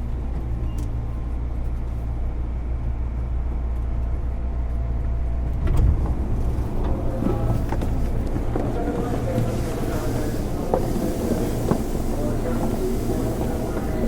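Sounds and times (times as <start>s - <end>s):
low hum of train equipment: 0.0s - 14.0s.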